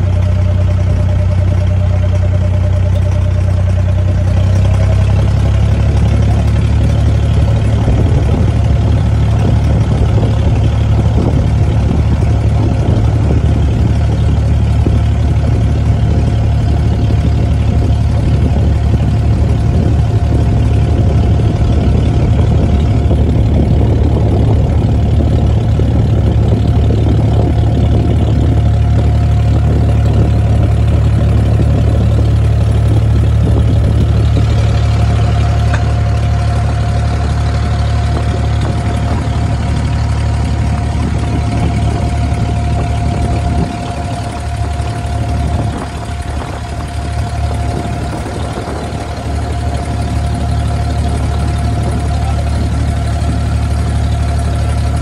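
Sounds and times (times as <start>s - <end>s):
boat engine humming: 0.0s - 55.0s
water rushing along hull: 0.0s - 55.0s.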